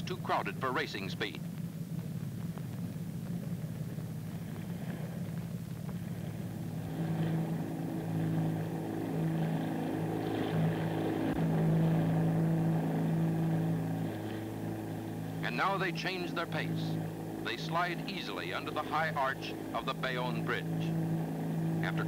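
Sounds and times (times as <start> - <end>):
boat engines droning: 0.0 - 22.0.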